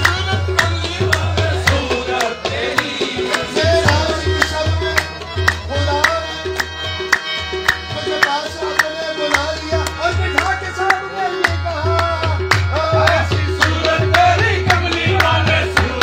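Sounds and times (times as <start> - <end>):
tabla playing: 0.0 - 16.0.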